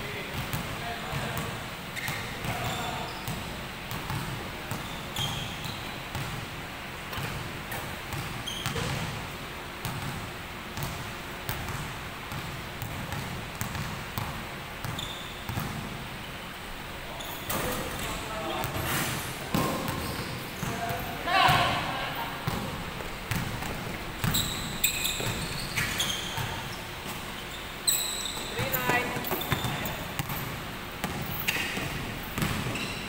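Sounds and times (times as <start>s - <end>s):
basketball bouncing on gym floor: 0.1s - 16.0s, 17.4s - 27.4s, 28.0s - 33.0s
sneaker squeaks: 0.3s - 6.4s, 7.1s - 9.3s, 14.8s - 33.0s.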